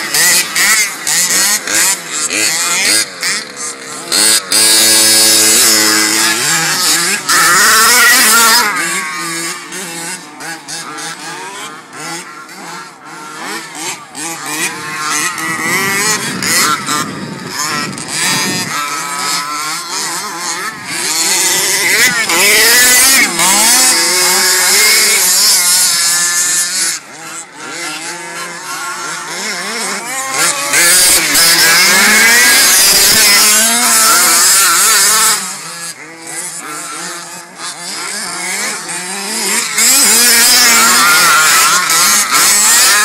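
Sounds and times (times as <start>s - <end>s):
small racing engines revving: 0.0s - 43.0s.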